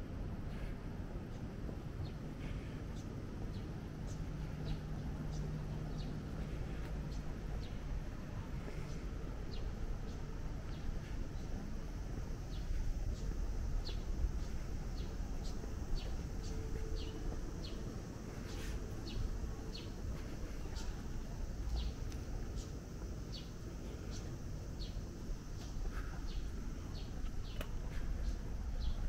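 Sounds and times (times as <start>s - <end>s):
low background rumble: 0.0s - 29.0s
small birds chirping: 0.5s - 29.0s.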